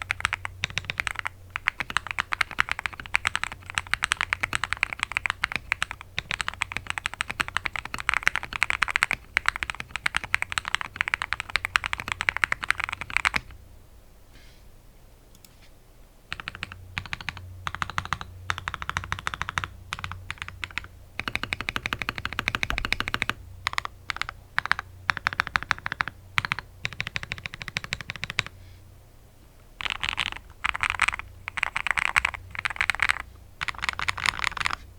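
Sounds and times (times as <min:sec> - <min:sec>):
mechanical keyboard typing: 0:00.0 - 0:13.5, 0:16.3 - 0:28.5, 0:29.8 - 0:34.8.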